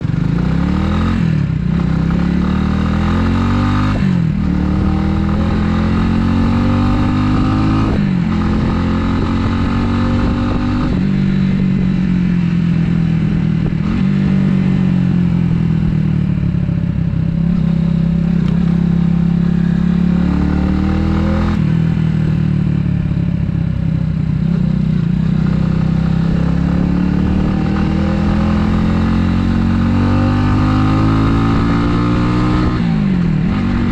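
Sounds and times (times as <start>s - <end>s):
motorcycle engine shifting gears: 0.0s - 33.9s.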